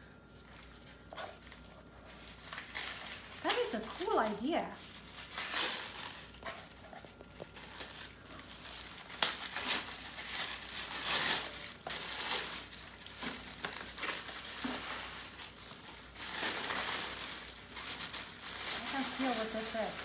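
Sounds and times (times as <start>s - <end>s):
tissue paper crinkling: 0.0s - 20.0s.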